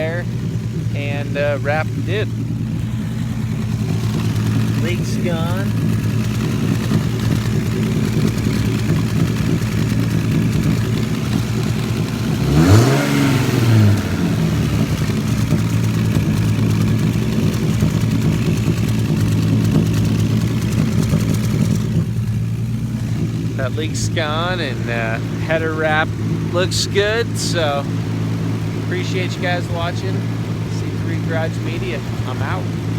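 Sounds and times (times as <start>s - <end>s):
car engine running and revving: 0.0s - 32.9s.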